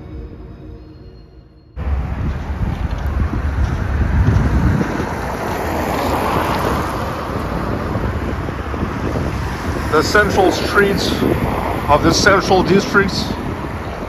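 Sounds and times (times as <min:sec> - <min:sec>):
street traffic hiss: 0:01.8 - 0:14.0
wind buffeting microphone: 0:01.8 - 0:14.0.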